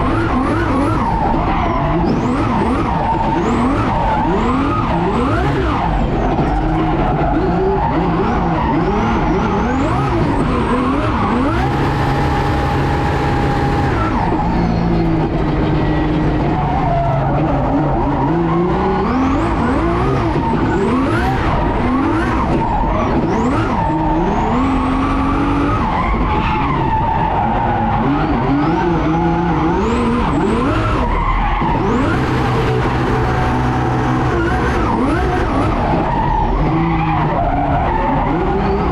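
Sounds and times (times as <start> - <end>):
car engine revving hard: 0.0 - 38.9.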